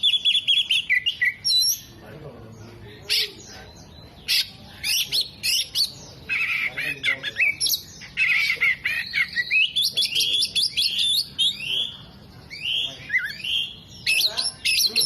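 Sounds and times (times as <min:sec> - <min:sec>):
bird singing chirps and trills: 0:00.0 - 0:15.0.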